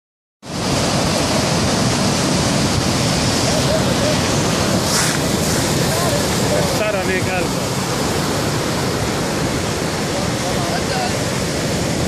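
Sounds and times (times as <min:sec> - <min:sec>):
surf breaking on shore: 0:00.4 - 0:12.0
wind buffeting microphone: 0:00.5 - 0:12.0.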